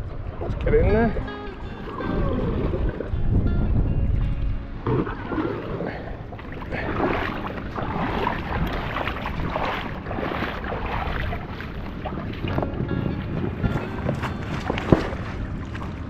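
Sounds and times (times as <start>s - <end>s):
paddle strokes splashing: 0.0s - 3.2s, 4.8s - 16.0s
water sloshing around kayak: 0.0s - 16.0s
wind on microphone: 0.0s - 16.0s.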